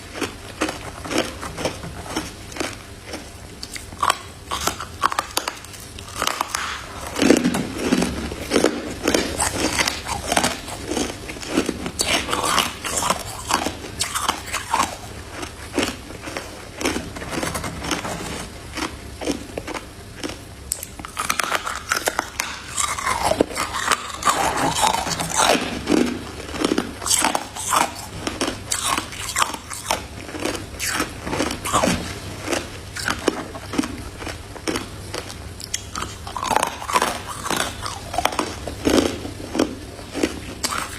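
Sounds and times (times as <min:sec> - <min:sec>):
person chewing crunchy ice: 0:00.0 - 0:40.9.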